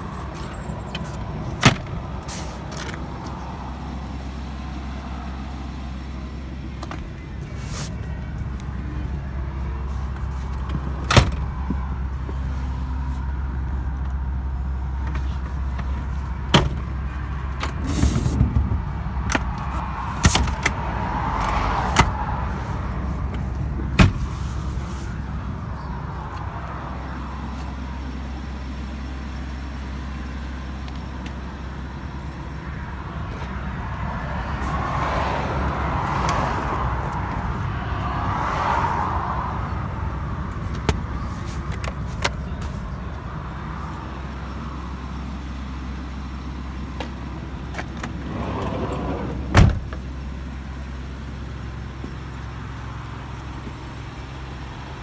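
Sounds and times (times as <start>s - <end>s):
traffic passing: 0.0s - 55.0s.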